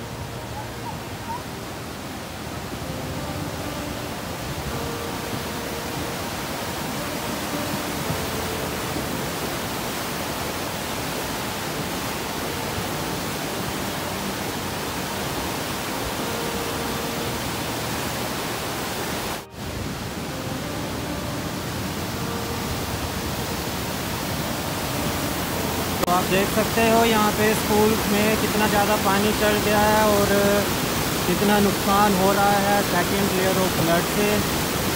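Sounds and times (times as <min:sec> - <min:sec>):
river rushing over boulders: 0:00.0 - 0:34.9.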